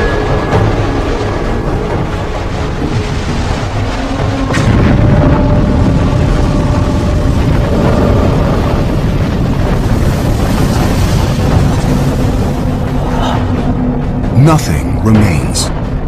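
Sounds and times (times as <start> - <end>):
deep rumbling roar: 0.0 - 14.3.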